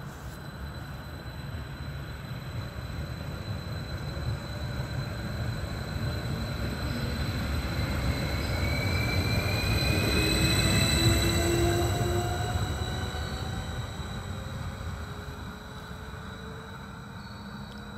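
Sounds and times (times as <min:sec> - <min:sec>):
rising train whine: 0:00.0 - 0:17.9
train wheels rumbling on rails: 0:00.0 - 0:17.9.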